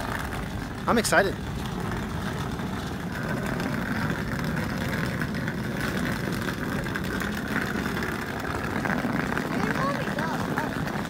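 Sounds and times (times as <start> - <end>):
luggage wheels rumbling on pavement: 0.0 - 11.0.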